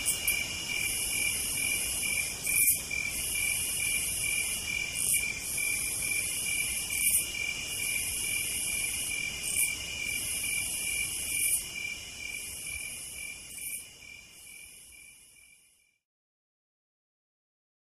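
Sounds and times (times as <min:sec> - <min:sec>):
insects shrill hiss: 0:00.0 - 0:14.9
insects pulsing trill: 0:00.0 - 0:15.8.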